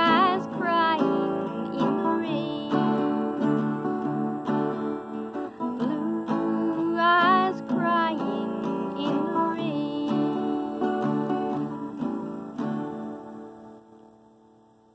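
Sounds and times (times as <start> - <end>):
woman singing with vibrato: 0.0 - 12.6
strummed acoustic guitar: 0.0 - 14.7.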